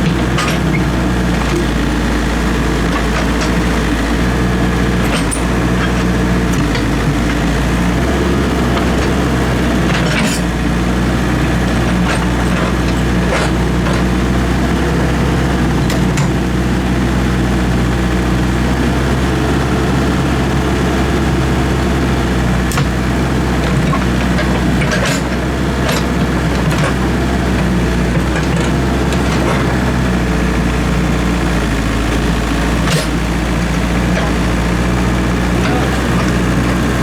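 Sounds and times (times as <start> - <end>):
excavator diesel engine idling: 0.0 - 37.0.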